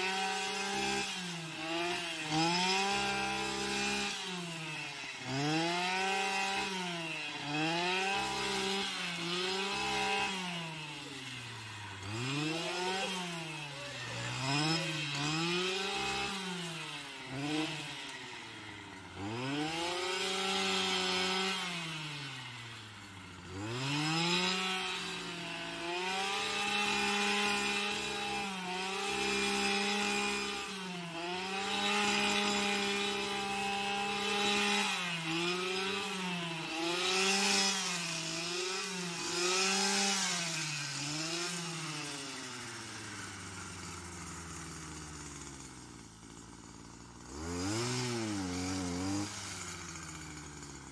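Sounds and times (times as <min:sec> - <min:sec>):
grass trimmer engine revving: 0:00.0 - 0:50.9.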